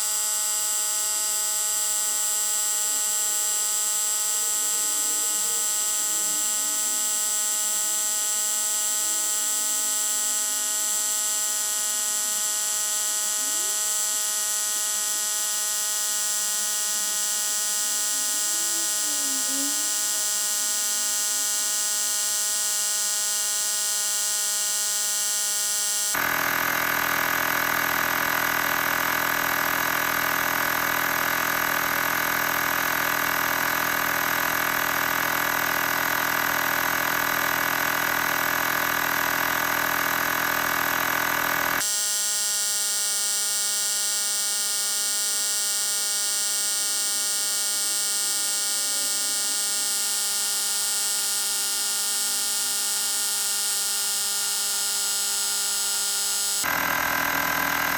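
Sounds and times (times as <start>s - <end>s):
air compressor motor droning: 0.0s - 57.9s.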